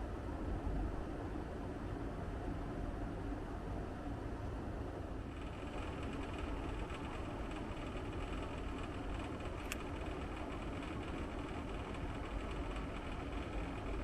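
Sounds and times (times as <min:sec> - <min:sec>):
air conditioner humming and buzzing: 0:00.0 - 0:14.0.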